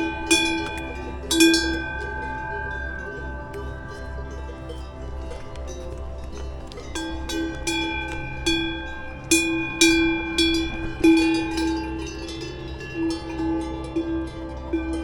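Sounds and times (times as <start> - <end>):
cowbells clanging: 0.0 - 15.0.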